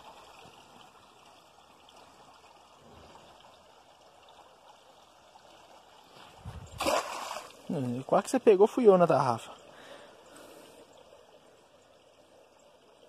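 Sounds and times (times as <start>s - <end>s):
trickle of running water: 0.0s - 13.0s.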